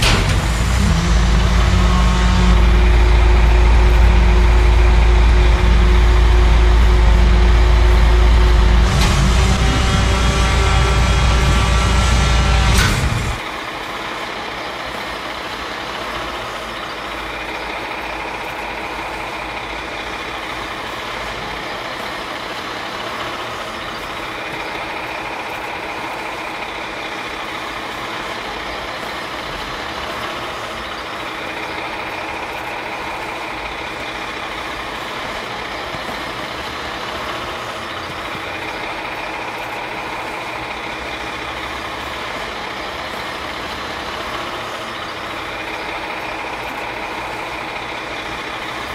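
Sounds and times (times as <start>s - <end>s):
garbage truck engine running: 0.0s - 48.9s.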